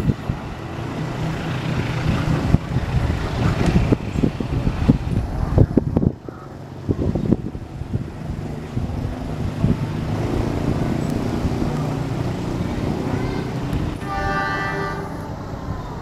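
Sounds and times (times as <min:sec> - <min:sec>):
diesel locomotive droning: 0:00.0 - 0:16.0
wind buffeting microphone: 0:00.0 - 0:16.0.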